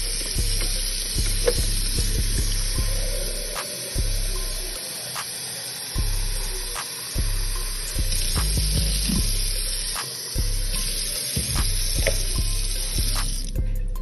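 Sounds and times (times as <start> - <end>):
tap water running into sink: 0.0 - 13.5
background music with bass beat: 0.0 - 14.0.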